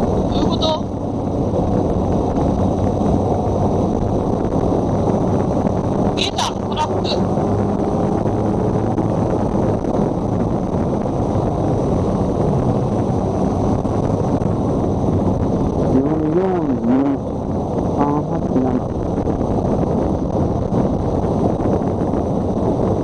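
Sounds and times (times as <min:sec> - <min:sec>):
motorcycle engine hum: 0:00.0 - 0:23.0
wind noise on microphone: 0:00.0 - 0:23.0.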